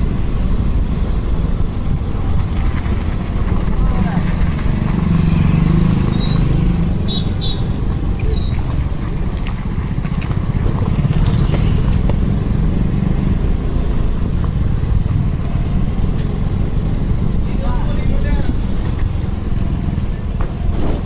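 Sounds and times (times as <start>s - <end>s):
motorcycle engine running: 1.3s - 20.7s.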